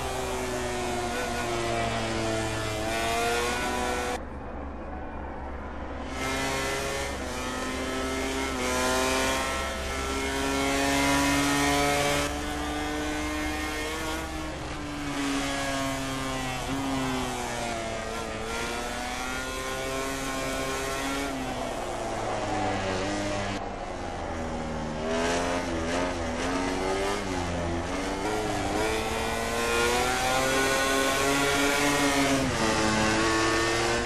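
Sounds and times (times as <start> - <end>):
racing motorcycle engines revving: 0.0 - 4.2, 6.0 - 34.0.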